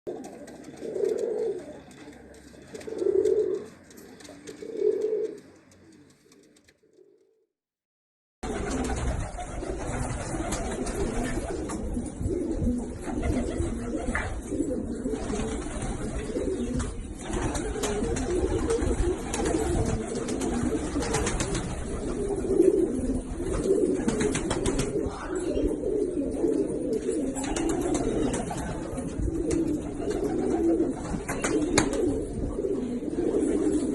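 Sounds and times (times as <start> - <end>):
pigeons cooing: 0.1 - 7.2, 8.4 - 33.9.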